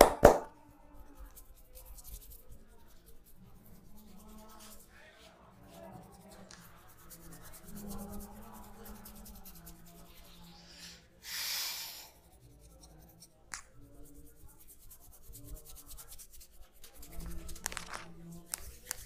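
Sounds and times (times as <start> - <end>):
scratchy rubbing of hair: 0.9 - 10.8, 12.1 - 19.0.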